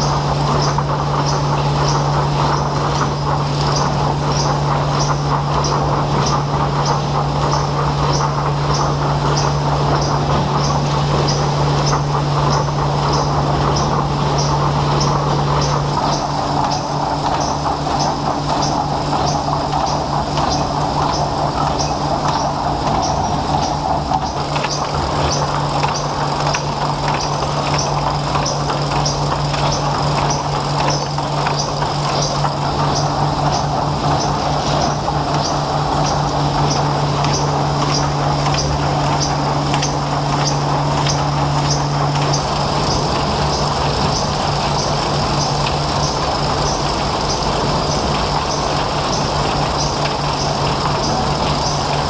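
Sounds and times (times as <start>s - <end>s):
light regular ticking: 0.0s - 52.0s
machinery humming: 0.0s - 52.0s.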